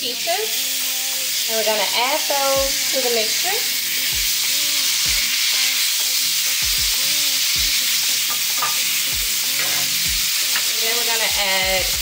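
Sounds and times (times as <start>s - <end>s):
fruit sizzling in butter: 0.0s - 12.0s.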